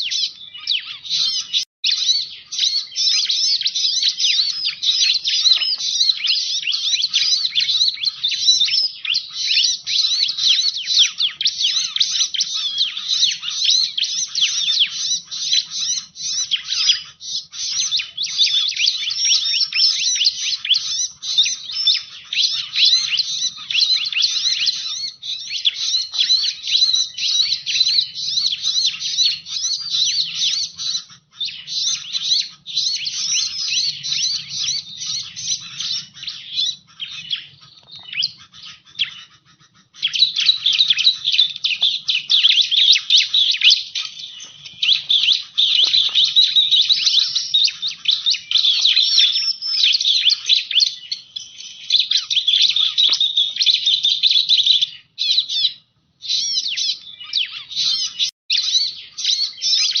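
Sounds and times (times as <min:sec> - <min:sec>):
bird chattering chirps: 0:00.0 - 1:00.0.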